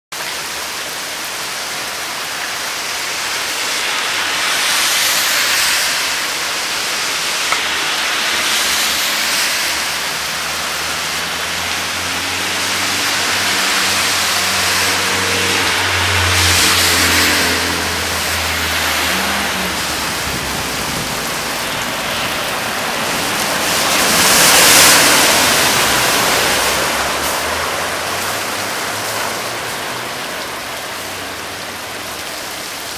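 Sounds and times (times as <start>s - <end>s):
torrential rain on pavement: 0.1s - 32.9s
vehicle engine passing: 3.8s - 31.9s.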